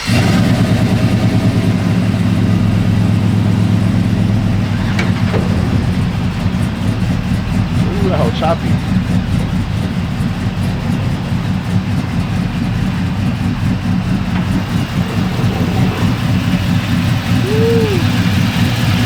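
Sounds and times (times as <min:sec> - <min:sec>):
car engine idling with lumpy lope: 0:00.0 - 0:19.0.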